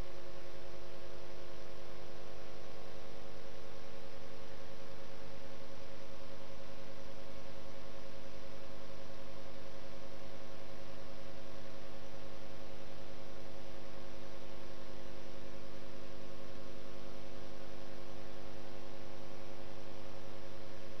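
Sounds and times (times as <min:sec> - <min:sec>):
electrical hum with tones: 0:00.0 - 0:21.0.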